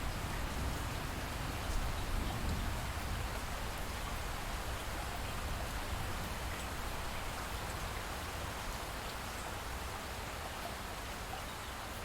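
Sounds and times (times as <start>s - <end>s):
light rain hiss: 0.0s - 12.0s.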